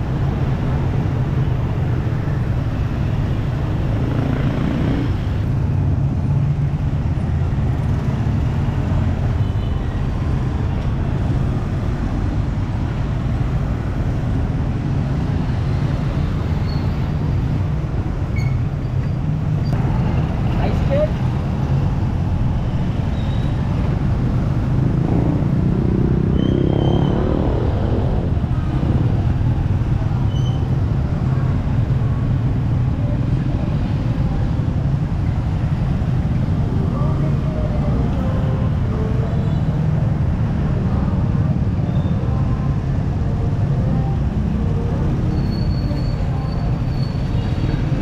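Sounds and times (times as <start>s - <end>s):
motorcycle engines rumbling: 0.0s - 48.0s.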